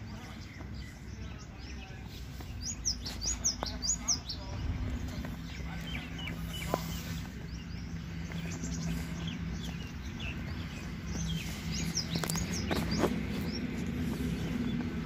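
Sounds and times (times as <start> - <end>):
outdoor background noise: 0.0 - 15.0
small birds chirping: 0.0 - 15.0.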